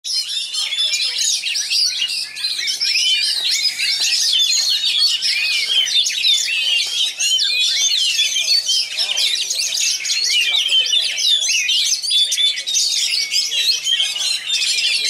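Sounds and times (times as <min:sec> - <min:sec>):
magpie-robin singing: 0:00.0 - 0:15.0.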